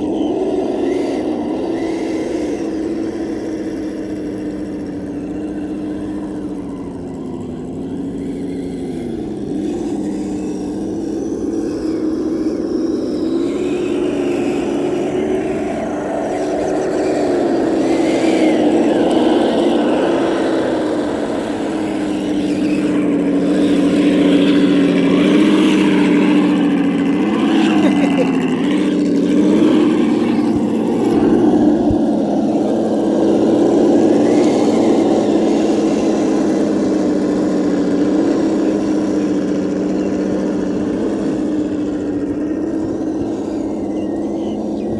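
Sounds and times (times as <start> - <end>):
electric motor humming: 0.0 - 44.9.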